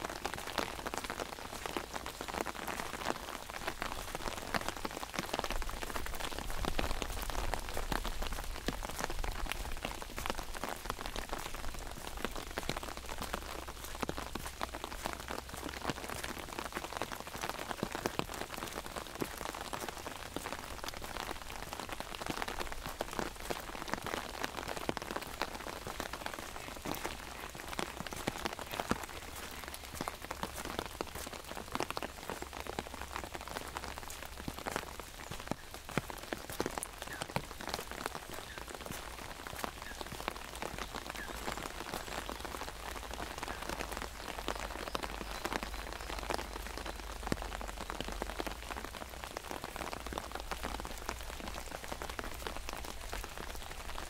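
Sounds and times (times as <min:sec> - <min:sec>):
rain on an umbrella: 0:00.0 - 0:54.0.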